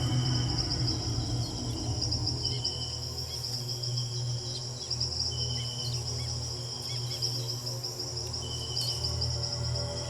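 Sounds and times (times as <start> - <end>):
background music with low drone: 0.0 - 10.0
insects trilling: 0.0 - 10.0.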